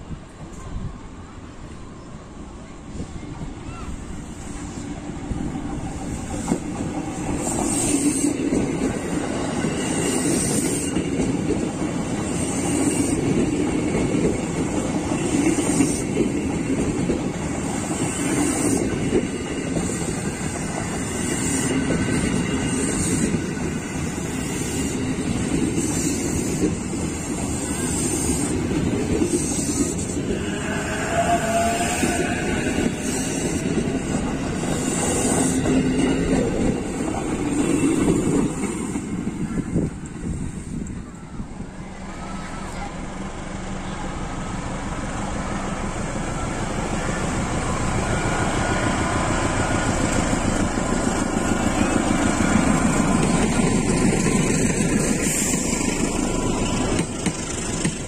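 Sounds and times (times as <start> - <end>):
electric train passing: 0.0 - 58.0
wheels rumbling on rail: 0.0 - 58.0
train cars rattling: 2.9 - 58.0.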